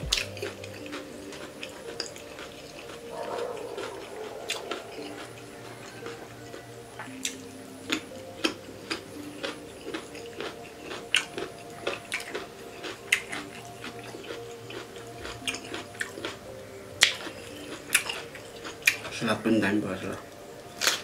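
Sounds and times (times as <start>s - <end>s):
person chewing and smacking: 0.0s - 16.4s, 17.0s - 19.2s, 20.8s - 21.0s
faint background music: 0.0s - 21.0s.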